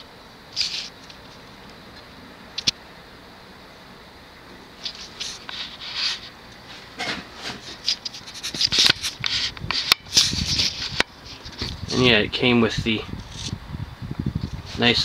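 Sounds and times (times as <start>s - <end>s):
fan scrapes and clicks: 0.0s - 2.8s, 4.8s - 15.0s
ceiling fan humming: 0.0s - 15.0s.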